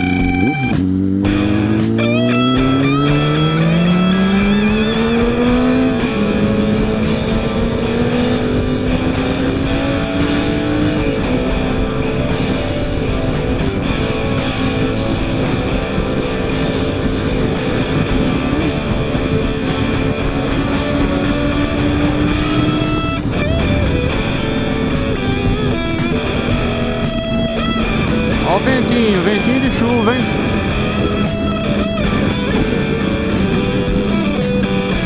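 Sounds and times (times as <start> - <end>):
guitar music with a beat: 0.0 - 35.0
motorcycle engine accelerating: 0.0 - 35.0.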